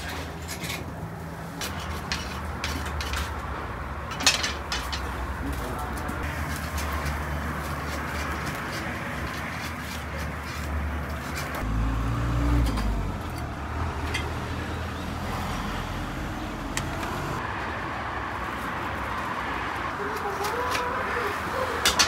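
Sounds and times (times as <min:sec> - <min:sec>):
traffic hum: 0:00.0 - 0:22.0
vehicle engine rumble passing: 0:00.0 - 0:22.0.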